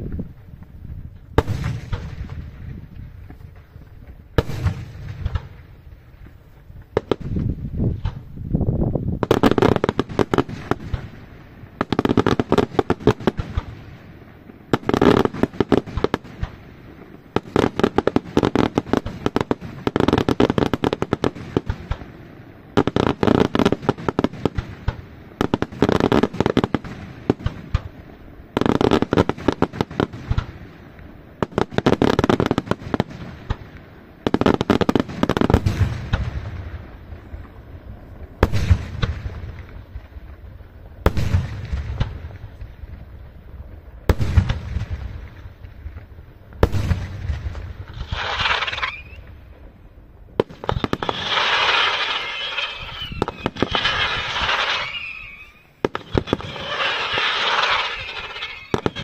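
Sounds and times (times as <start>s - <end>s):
fireworks crackling: 0.0s - 59.0s.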